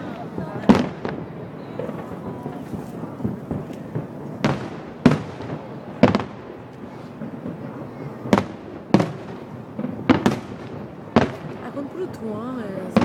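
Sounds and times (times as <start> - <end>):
fireworks bursting with bangs: 0.0 - 13.0.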